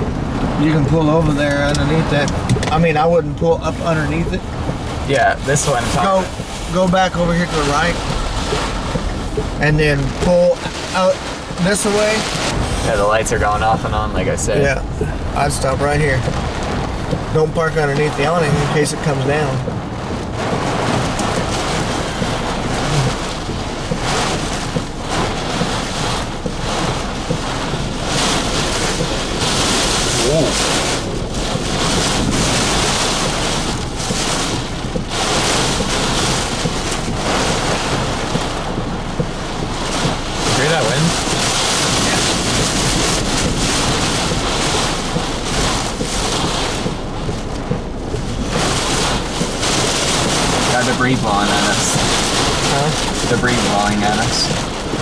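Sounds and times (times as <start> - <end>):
wind and rain against car: 0.0 - 55.0.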